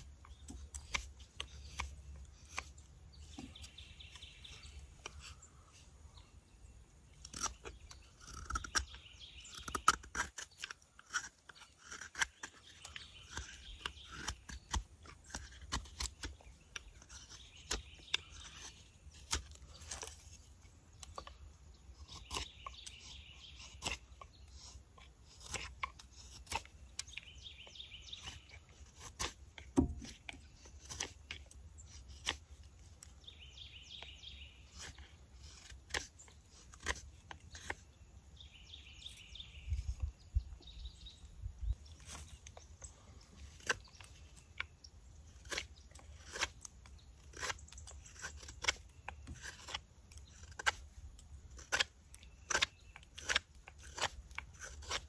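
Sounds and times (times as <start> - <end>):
blade carving wood: 0.0 - 5.7, 7.0 - 55.0
birds chirping: 0.0 - 55.0.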